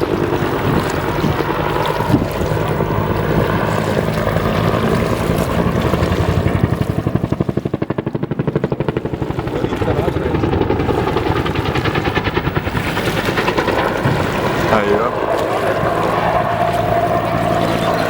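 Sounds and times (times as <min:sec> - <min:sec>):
helicopter in flight: 0:00.0 - 0:18.0.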